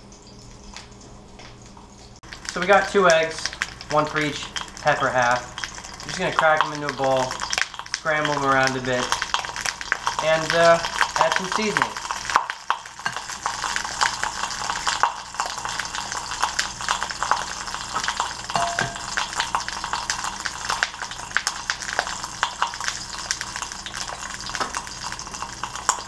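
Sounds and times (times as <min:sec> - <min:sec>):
peppers sizzling in hot oil: 0:00.0 - 0:26.0.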